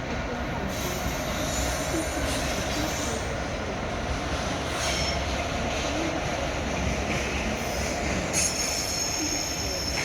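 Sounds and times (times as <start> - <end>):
train rumbling: 0.0 - 10.0
train wheels squealing on rails: 0.0 - 10.0.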